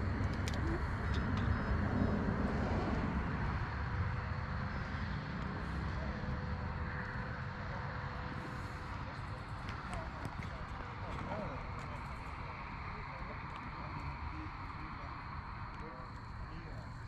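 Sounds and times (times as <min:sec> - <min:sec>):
model airplane engine drone: 0:00.0 - 0:17.0.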